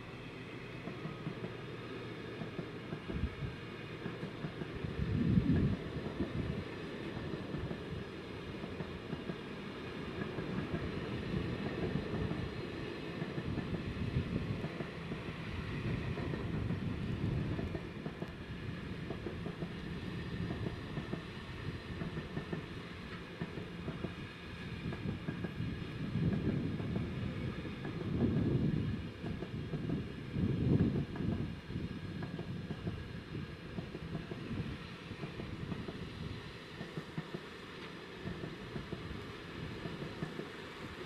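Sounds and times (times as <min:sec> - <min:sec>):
train wagons rolling past: 0:00.0 - 0:41.0.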